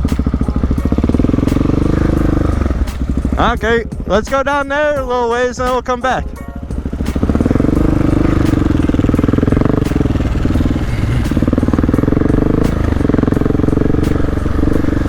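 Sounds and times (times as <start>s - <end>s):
motorcycle engine revving: 0.0s - 4.1s, 6.8s - 15.0s.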